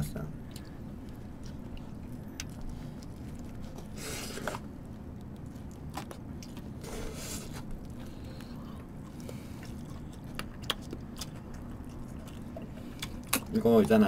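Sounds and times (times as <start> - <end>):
steady low hum: 0.0 - 14.0
chewing: 0.4 - 14.0.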